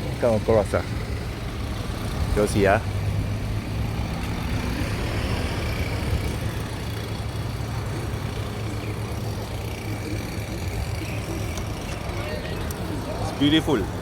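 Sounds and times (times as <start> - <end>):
outdoor noise: 0.0 - 14.0
vehicle engine humming: 0.0 - 14.0.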